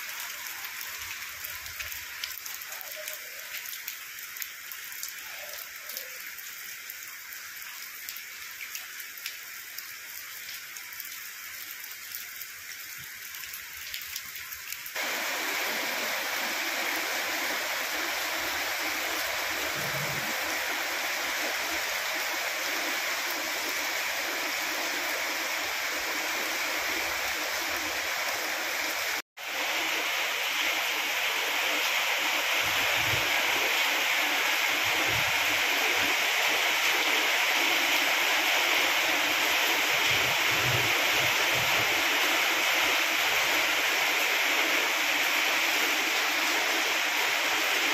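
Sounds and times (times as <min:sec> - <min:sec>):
steady rush of water: 0:00.0 - 0:11.8, 0:12.7 - 0:47.9
heavy rain falling: 0:00.0 - 0:47.9.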